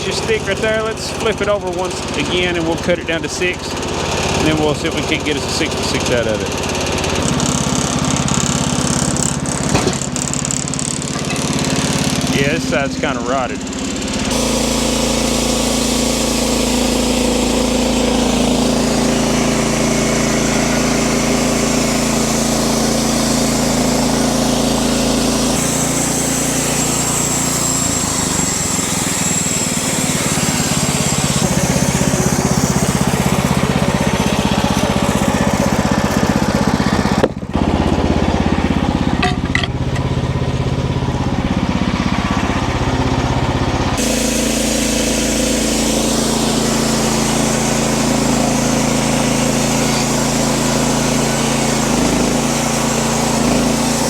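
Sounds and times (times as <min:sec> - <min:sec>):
band saw blade cutting log: 0:00.0 - 0:54.0
small gas engine running: 0:00.0 - 0:54.0.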